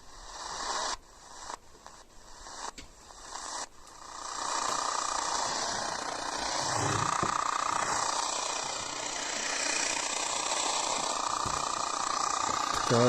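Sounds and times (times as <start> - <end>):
radio static and hiss: 0.0 - 13.0.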